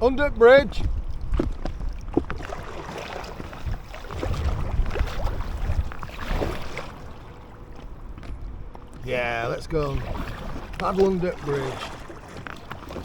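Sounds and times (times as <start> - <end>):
water splashing around kayak: 0.0 - 13.0
wind buffeting microphone: 0.0 - 13.0.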